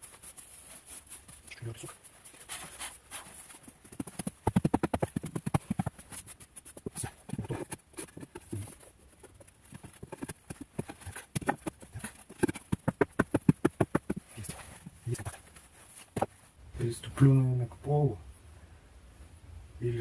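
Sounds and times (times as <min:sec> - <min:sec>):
sand scraping and knocking: 0:00.0 - 0:16.4.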